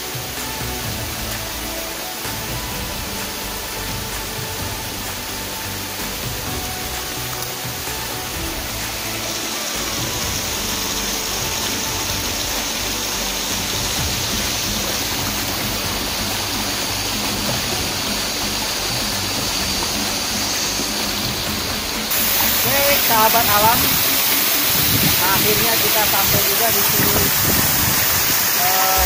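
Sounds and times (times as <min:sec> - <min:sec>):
background music: 0:00.0 - 0:29.0
waterfall rushing: 0:00.0 - 0:29.0.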